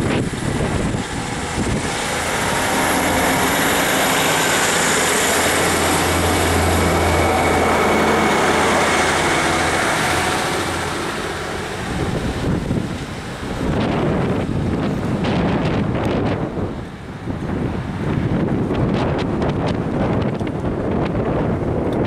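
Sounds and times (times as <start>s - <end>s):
diesel train engine drone: 0.0s - 22.0s
wheels rumbling on rail: 0.0s - 22.0s.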